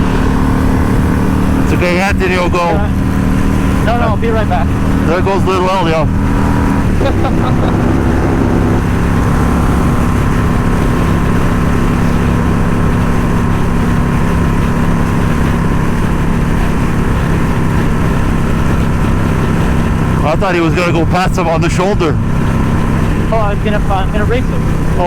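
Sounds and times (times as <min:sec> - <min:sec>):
motorcycle engine cruising: 0:00.0 - 0:25.0
road and wind rumble: 0:00.0 - 0:25.0.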